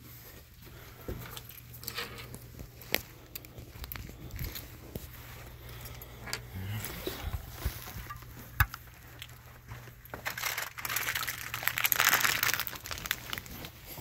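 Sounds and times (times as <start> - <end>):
rustling and crinkling handling noise: 0.0 - 14.0.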